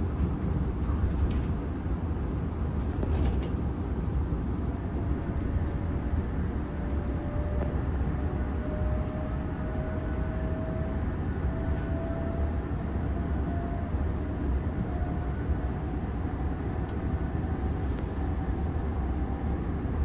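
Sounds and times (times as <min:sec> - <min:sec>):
train running gear rumble: 0:00.0 - 0:20.0.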